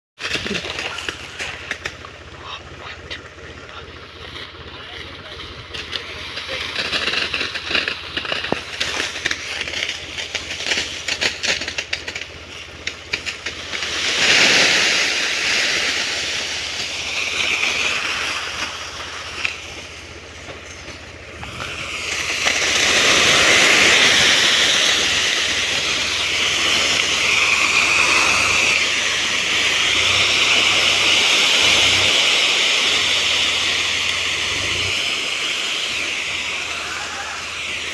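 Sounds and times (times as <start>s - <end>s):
low hum: 0.2s - 37.9s.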